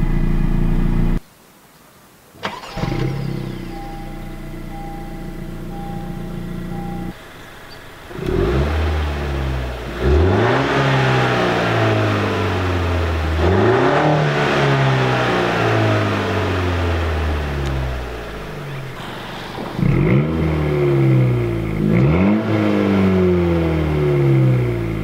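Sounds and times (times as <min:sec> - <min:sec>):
car engine revving: 0:02.4 - 0:25.0.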